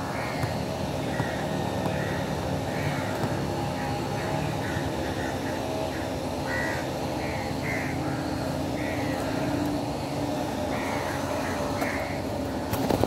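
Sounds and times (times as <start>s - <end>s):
steady low hum: 0.0s - 13.0s
bird calling: 0.1s - 12.6s.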